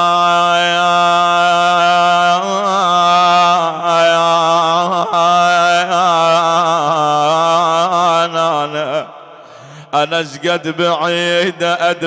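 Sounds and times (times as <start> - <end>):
man chanting a lament: 0.0 - 12.0.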